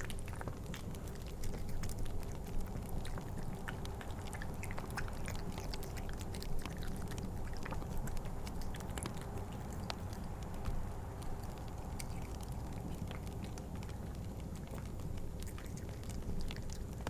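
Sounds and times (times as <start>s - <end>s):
cat chewing and lapping food: 0.0s - 17.0s
fire crackling: 0.0s - 17.0s
low wind rumble: 0.0s - 17.0s.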